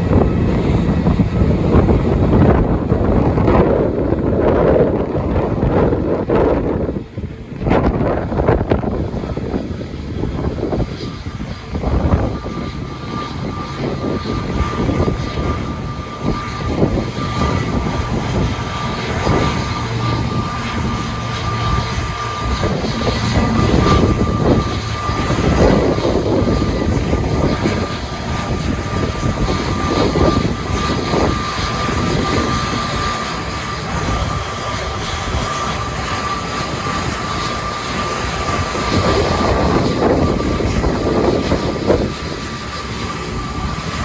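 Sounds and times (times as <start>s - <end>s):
jet engines whining: 0.0s - 44.0s
wind buffeting microphone: 0.0s - 44.0s.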